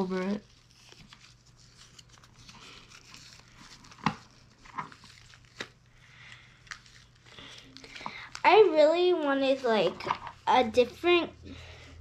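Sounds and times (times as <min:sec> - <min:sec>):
doll clothes rustling: 0:00.0 - 0:05.8, 0:06.6 - 0:12.0.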